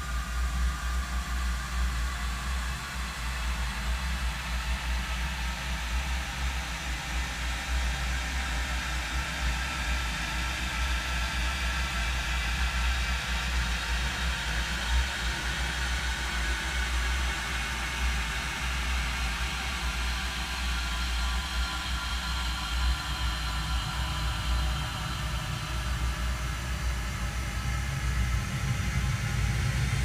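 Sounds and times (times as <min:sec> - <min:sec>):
noisy drone with low hum: 0:00.0 - 0:30.0.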